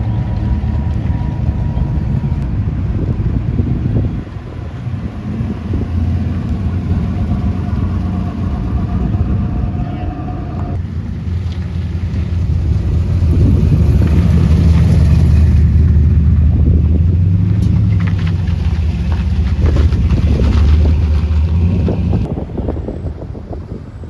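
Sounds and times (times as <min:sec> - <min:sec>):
car engine and road rumble: 0:00.0 - 0:24.0
wind on microphone: 0:00.0 - 0:24.0.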